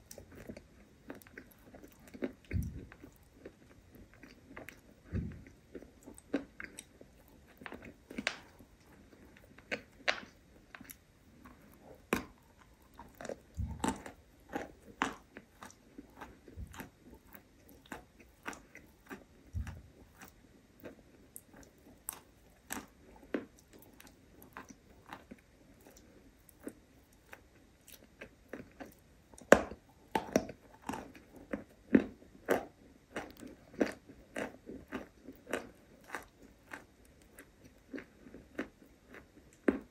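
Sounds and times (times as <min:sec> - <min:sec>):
close chewing with wet smacks: 0:00.0 - 0:39.9.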